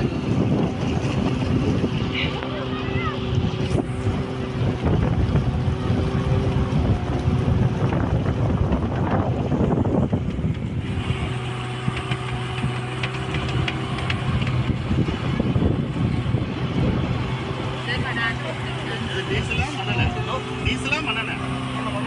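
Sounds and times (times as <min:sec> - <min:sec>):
motorboat engine running: 0:00.0 - 0:22.0
wind buffeting microphone: 0:00.0 - 0:22.0.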